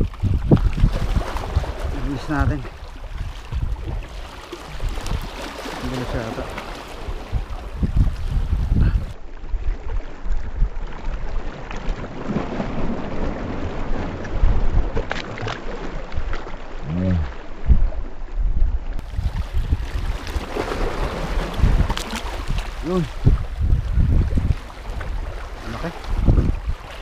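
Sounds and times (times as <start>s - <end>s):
wind buffeting microphone: 0.0s - 15.2s, 16.1s - 27.0s
water sloshing against rocks: 0.0s - 18.1s, 19.0s - 27.0s.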